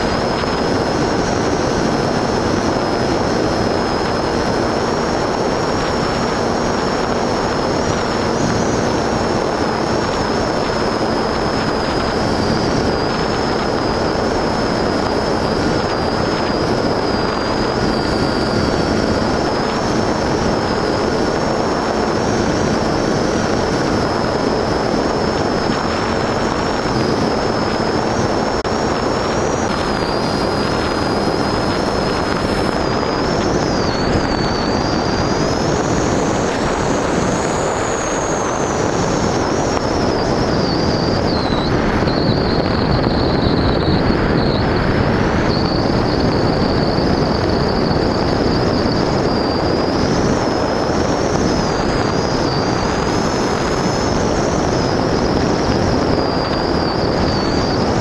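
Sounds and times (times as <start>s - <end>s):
model aircraft motor whine: 0.0s - 58.0s
wind noise: 0.0s - 58.0s.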